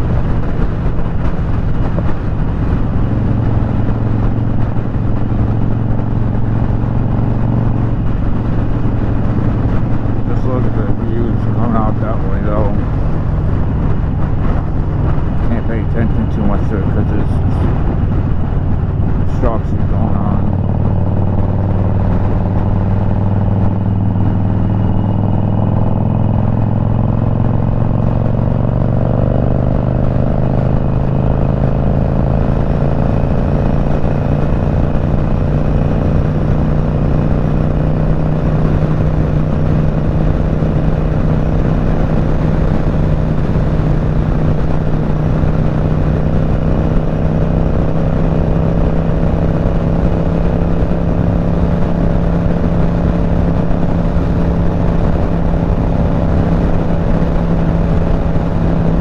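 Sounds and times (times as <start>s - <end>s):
motorcycle engine running: 0.0s - 59.0s
wind and road noise hiss: 0.0s - 59.0s.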